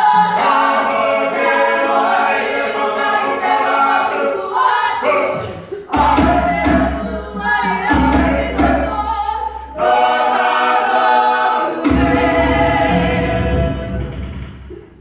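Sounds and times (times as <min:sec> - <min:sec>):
choir singing unaccompanied: 0:00.0 - 0:14.8.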